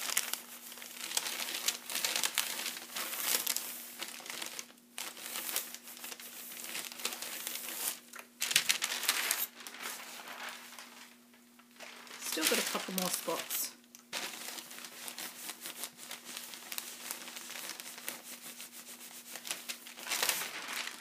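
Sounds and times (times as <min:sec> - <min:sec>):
baking paper crinkling: 0:00.0 - 0:21.0.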